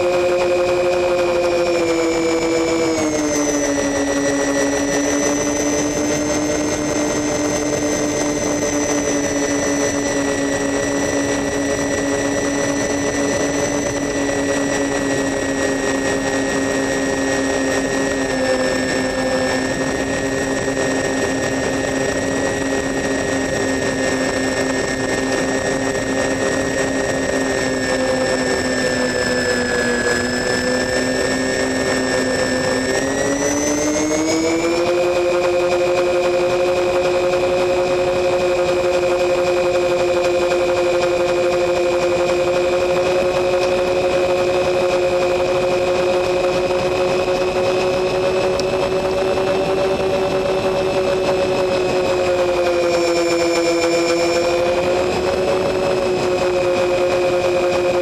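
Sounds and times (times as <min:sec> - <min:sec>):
model airplane motor whine: 0:00.0 - 0:58.0.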